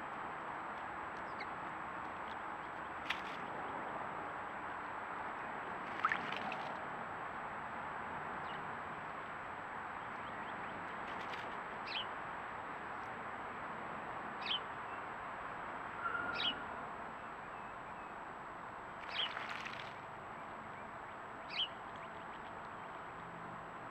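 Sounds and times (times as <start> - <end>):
songbirds chirping: 0.0 - 7.6, 8.2 - 15.3, 16.0 - 23.8
outdoor background noise: 0.0 - 23.9.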